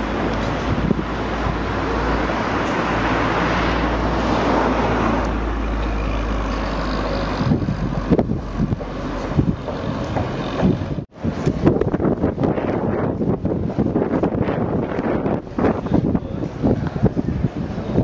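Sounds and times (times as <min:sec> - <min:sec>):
vehicle passing: 0:00.0 - 0:17.7
wind rumble on microphone: 0:00.0 - 0:18.0.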